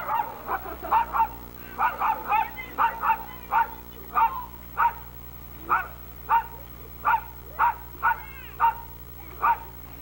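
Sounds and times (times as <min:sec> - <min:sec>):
dog barking: 0:00.0 - 0:05.1, 0:05.7 - 0:09.8.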